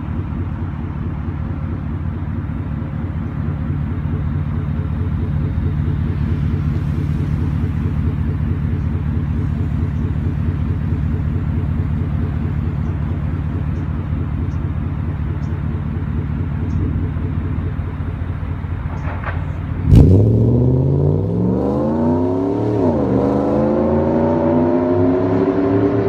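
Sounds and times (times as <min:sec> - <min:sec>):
car exhaust low pulsing: 0:00.0 - 0:26.0.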